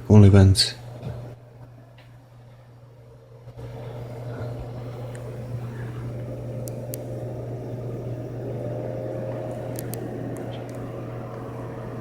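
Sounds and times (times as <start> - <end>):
computer fans humming: 0.0 - 12.0.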